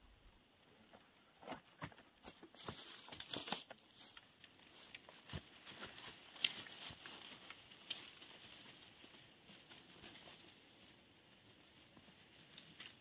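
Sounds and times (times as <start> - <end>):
footsteps crunching through dry leaves: 2.2 - 13.0.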